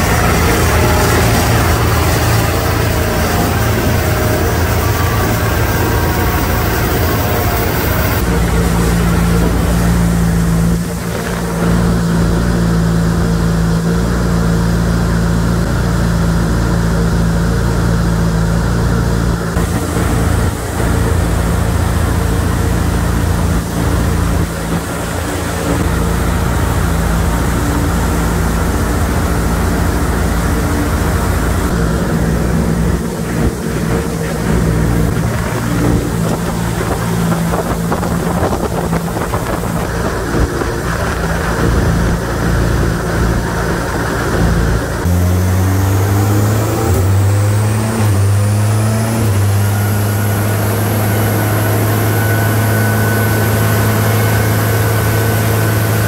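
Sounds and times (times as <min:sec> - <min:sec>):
steady mechanical drone: 0:00.0 - 0:56.0.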